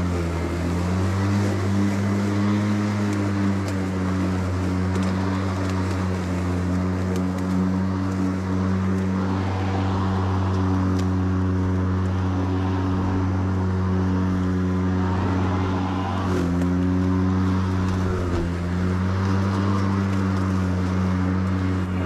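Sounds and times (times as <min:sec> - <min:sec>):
lawn mower humming: 0:00.0 - 0:22.0.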